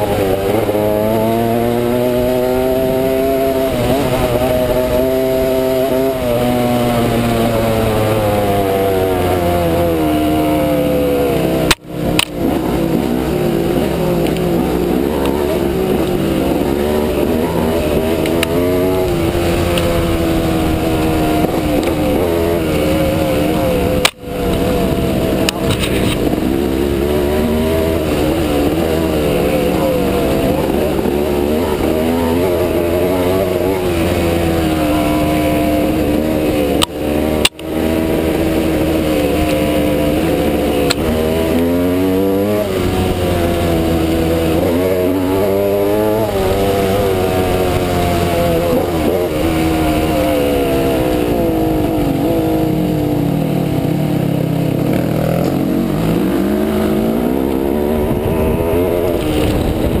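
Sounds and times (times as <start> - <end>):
dirt bike engine revving: 0.0 - 60.0.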